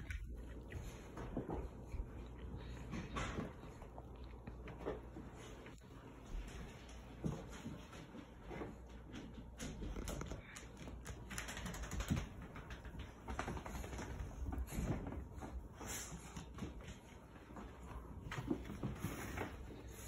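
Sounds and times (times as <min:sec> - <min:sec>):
dog paws scratching carpet: 0:00.0 - 0:20.0.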